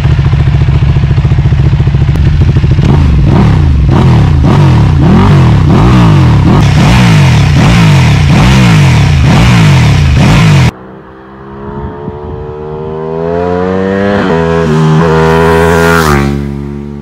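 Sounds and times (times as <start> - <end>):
motorcycle engine revving: 0.0 - 17.0
motorcycle accelerating past: 2.8 - 17.0.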